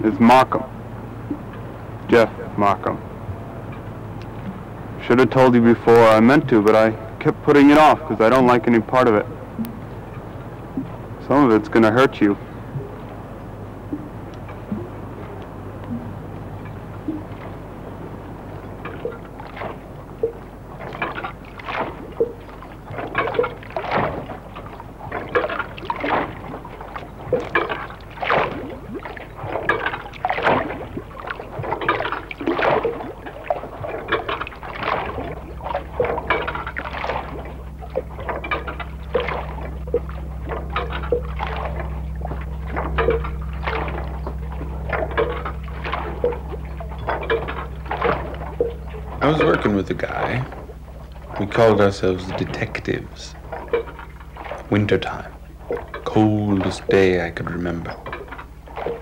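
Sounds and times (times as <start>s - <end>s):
low steady hum: 0.0s - 59.0s
water lapping against a quay: 0.0s - 59.0s.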